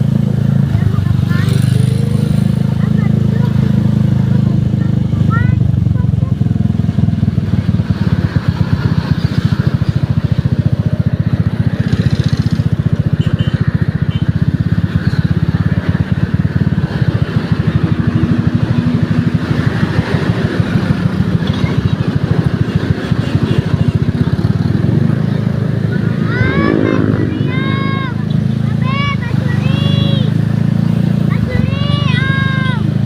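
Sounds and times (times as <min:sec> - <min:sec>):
vehicle engine running loudly: 0:00.0 - 0:33.0.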